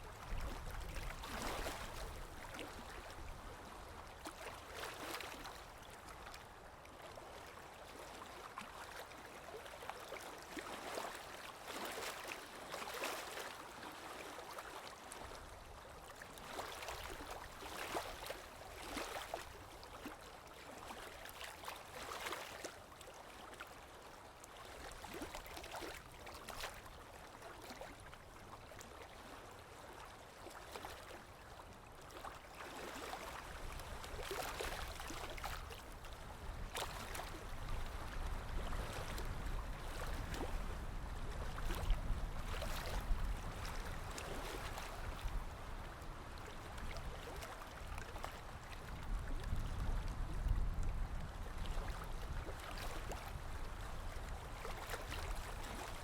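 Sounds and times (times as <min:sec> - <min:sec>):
sea waves splashing and lapping: 0:00.1 - 0:56.0.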